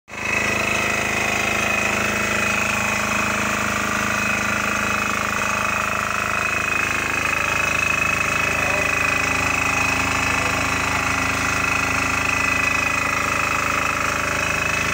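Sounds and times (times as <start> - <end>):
diesel generator running: 0.1 - 14.9
high steady whine: 0.1 - 14.9.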